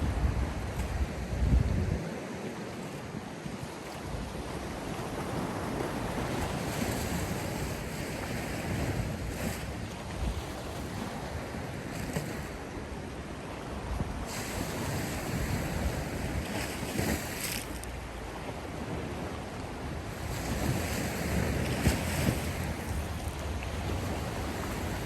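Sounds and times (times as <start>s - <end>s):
sea surf washing in: 0.0s - 25.0s
wind rumbling on microphone: 0.0s - 25.0s.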